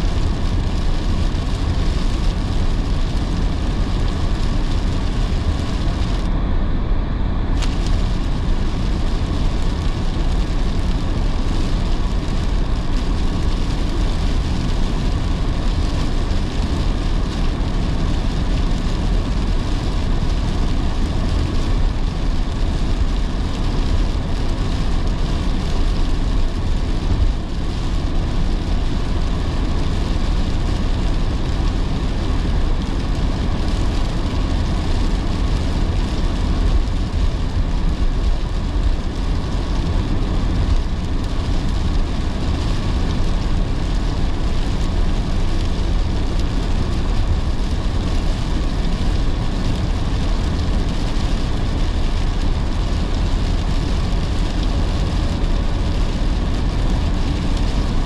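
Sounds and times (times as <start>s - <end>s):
rain hissing on wet road: 0.0s - 6.3s, 7.3s - 58.0s
car tyre and road noise: 0.0s - 58.0s.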